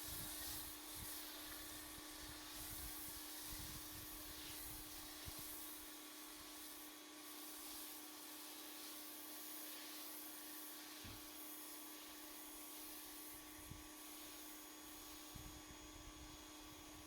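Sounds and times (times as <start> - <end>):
foam cannon spraying hiss: 0.0 - 15.6.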